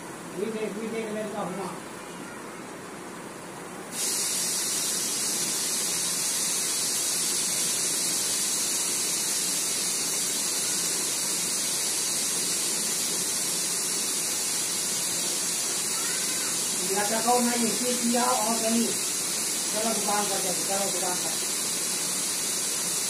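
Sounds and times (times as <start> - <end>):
steady high hiss: 0.0 - 23.0.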